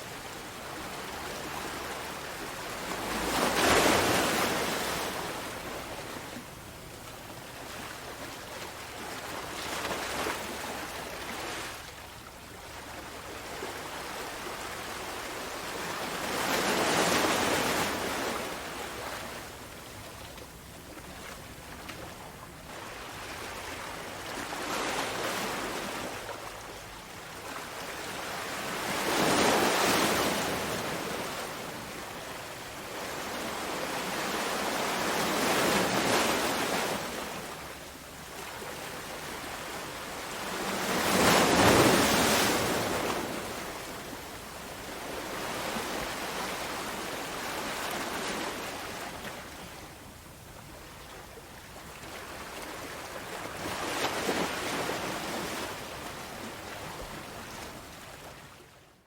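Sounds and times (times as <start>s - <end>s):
ocean waves rolling in: 0.0s - 58.8s.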